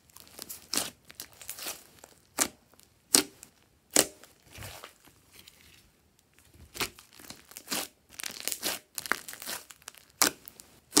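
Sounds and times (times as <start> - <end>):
slime crackling and squelching: 0.0 - 11.0.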